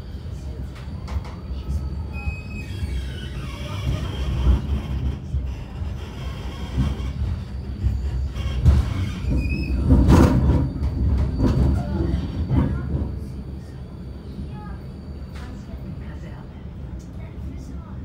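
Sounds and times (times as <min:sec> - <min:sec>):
tram rumbling on rails: 0:00.0 - 0:18.0.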